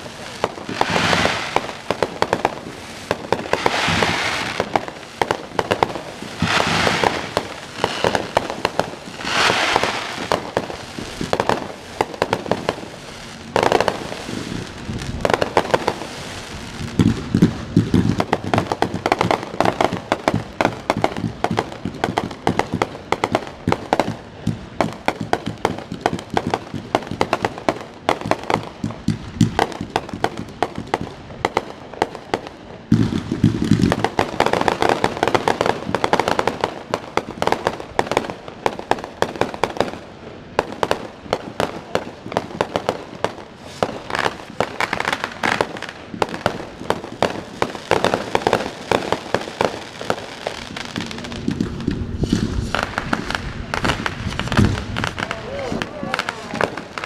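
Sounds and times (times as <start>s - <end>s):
fireworks popping and crackling: 0.0s - 57.0s.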